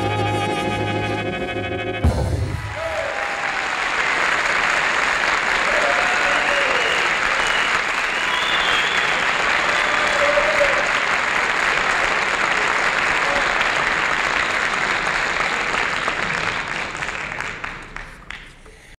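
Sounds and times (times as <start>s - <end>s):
audience applauding: 2.4s - 19.0s.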